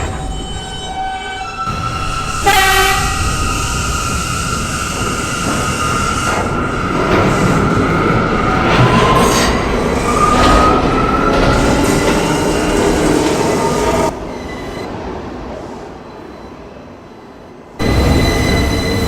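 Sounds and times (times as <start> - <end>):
subway train motors whining: 0.0 - 19.0.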